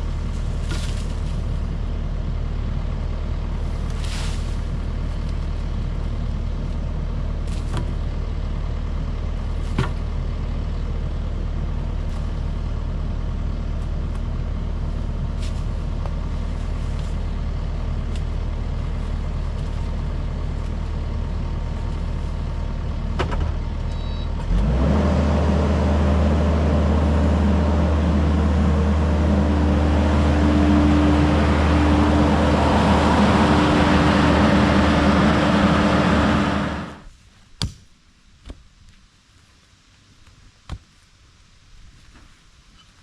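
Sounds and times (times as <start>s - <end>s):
heavy machine engine running: 0.0s - 37.1s.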